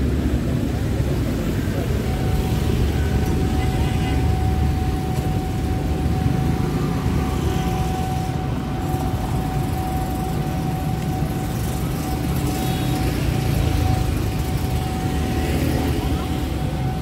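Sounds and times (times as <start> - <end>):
street traffic rumble: 0.0 - 17.0
thin steady whine: 0.0 - 17.0.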